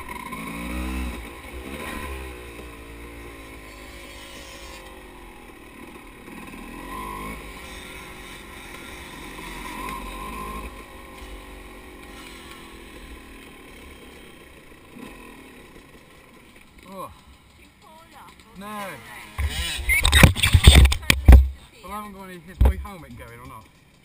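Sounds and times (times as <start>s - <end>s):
dirt bike engine: 0.0s - 24.0s.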